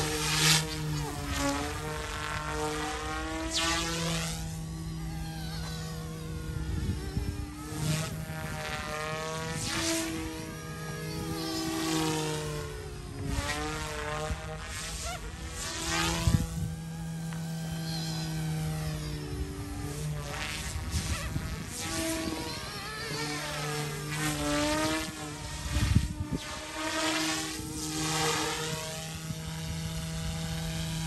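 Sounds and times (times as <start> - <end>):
rc helicopter motor whine: 0.0 - 31.0.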